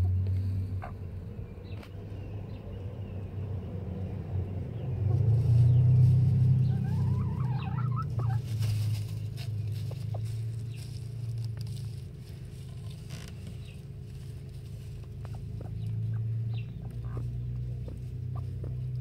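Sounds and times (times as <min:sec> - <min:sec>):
chickens clucking and trilling: 0:00.0 - 0:19.0
steady low hum: 0:00.0 - 0:19.0.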